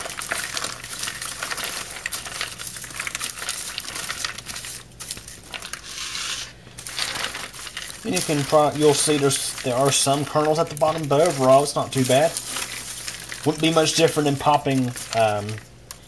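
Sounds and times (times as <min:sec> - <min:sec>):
popcorn rustling and crackling: 0:00.0 - 0:16.0.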